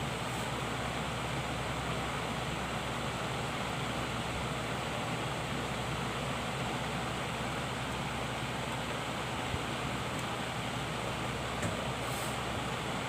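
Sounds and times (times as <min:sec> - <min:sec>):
electric fan whooshing: 0:00.0 - 0:13.0.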